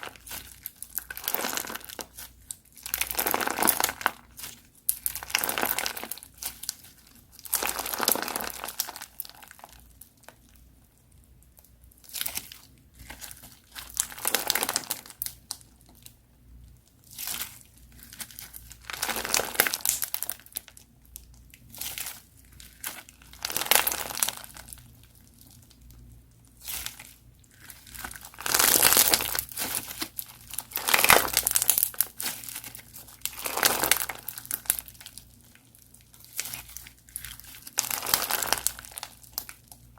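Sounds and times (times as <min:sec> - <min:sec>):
crunchy slime crackling: 0:00.0 - 0:10.7, 0:11.4 - 0:16.2, 0:16.9 - 0:39.9.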